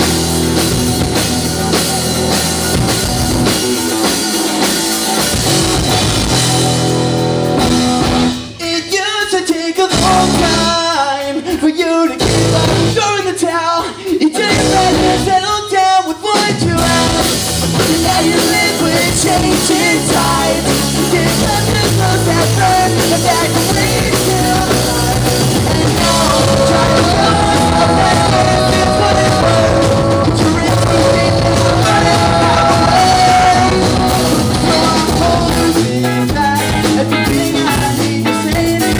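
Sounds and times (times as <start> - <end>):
melodic lead line: 0.0 - 9.0, 16.4 - 38.9
live rock band playing: 0.0 - 38.9.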